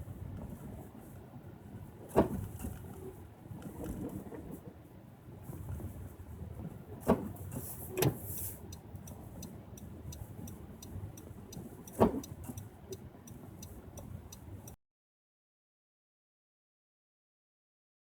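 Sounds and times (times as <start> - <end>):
car road rumble: 0.0 - 14.8.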